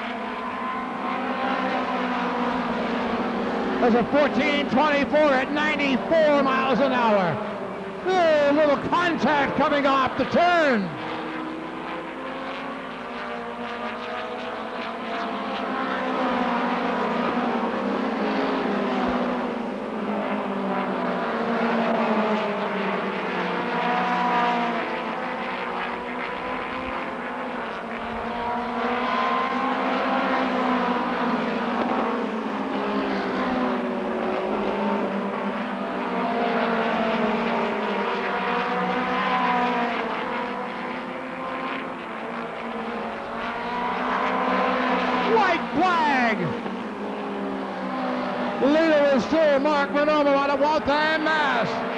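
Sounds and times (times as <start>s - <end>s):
race car engines revving: 0.0s - 51.9s.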